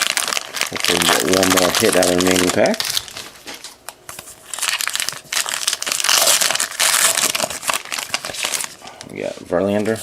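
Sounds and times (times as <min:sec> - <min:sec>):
plastic wrapper tearing and crinkling: 0:00.0 - 0:09.2.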